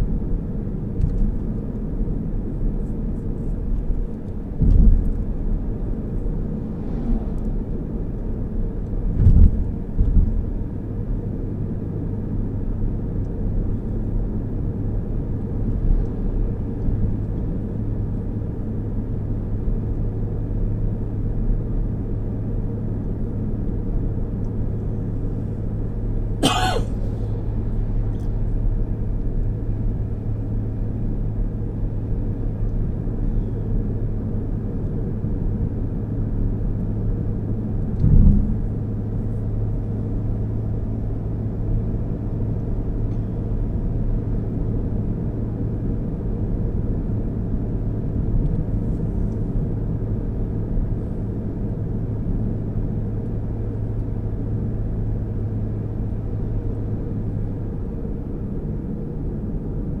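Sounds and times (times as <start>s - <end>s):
car cabin road and engine noise: 0.0s - 60.0s.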